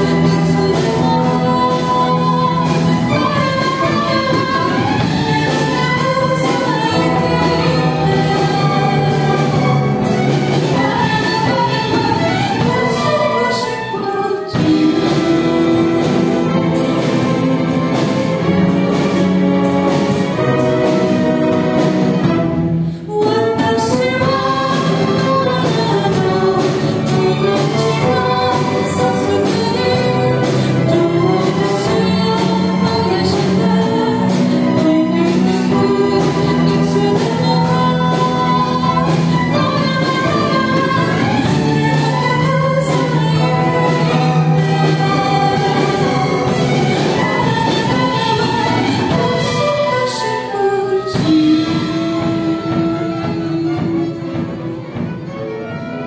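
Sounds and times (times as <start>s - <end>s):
woman singing lead vocals: 0.0s - 17.0s, 22.9s - 54.6s
choir singing: 0.0s - 22.2s, 23.7s - 54.0s
string orchestra: 0.0s - 56.0s.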